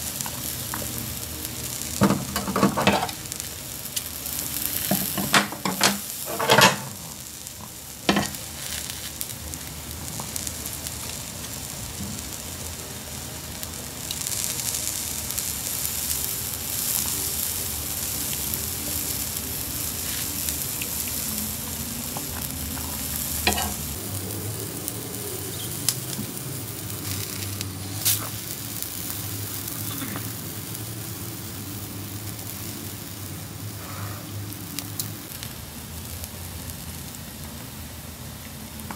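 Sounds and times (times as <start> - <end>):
food sizzling in a pan: 0.0 - 38.9.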